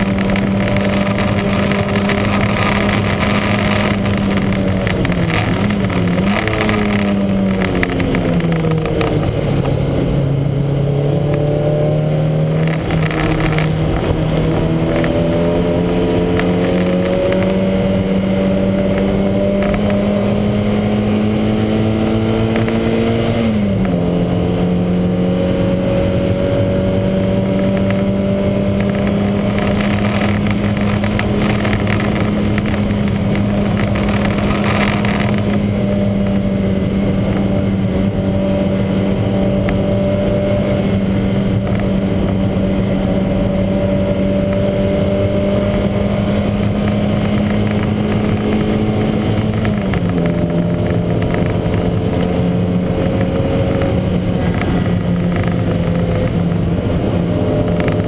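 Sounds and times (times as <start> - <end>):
racing car engine at high revs: 0.0 - 58.0.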